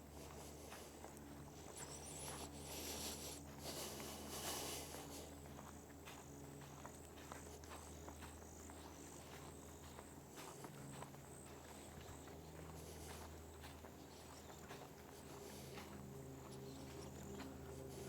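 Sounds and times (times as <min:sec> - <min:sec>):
footsteps on a trail: 0:00.0 - 0:18.0
steady low hum: 0:00.0 - 0:18.0.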